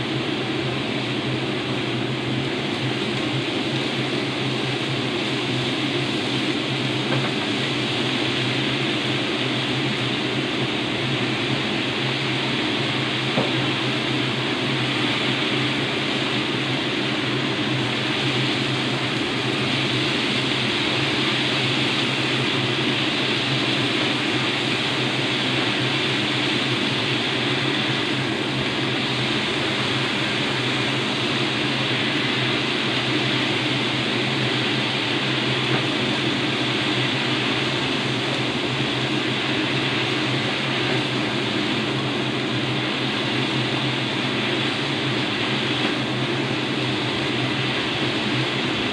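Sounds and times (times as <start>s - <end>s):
fan whirring: 0.0s - 48.9s.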